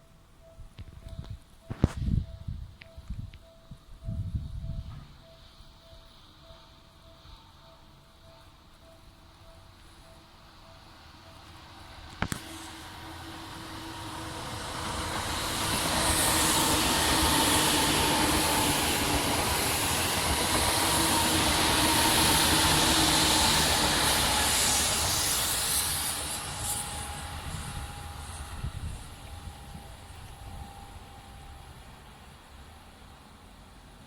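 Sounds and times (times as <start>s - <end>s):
distant train rumble: 0.0s - 34.0s.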